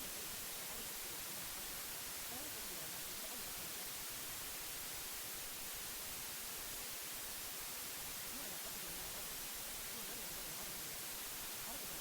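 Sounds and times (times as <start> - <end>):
white noise hiss: 0.0 - 12.0.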